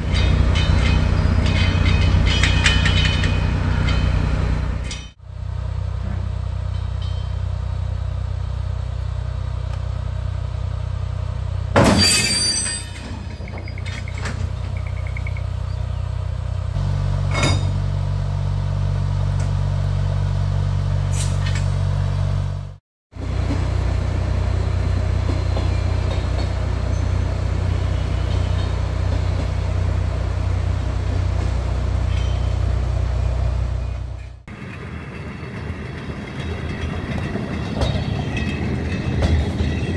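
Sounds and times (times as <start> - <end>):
locomotive humming: 0.0 - 39.9.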